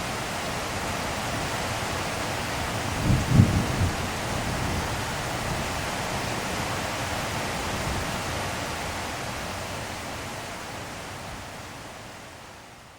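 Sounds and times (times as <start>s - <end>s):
heavy rainfall: 0.0s - 12.9s.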